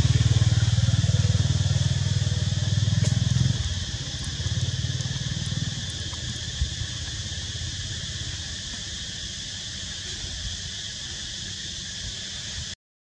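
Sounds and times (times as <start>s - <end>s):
insect chorus buzzing: 0.0s - 12.8s.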